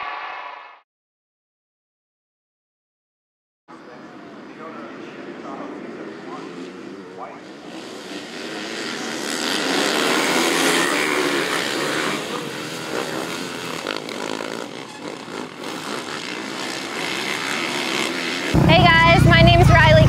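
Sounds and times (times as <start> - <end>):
dirt bikes revving past: 3.7 - 20.0.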